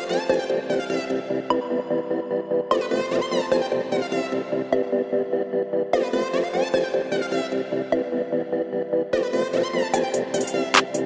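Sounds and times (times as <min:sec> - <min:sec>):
electronic music with pulsing beat: 0:00.0 - 0:11.0.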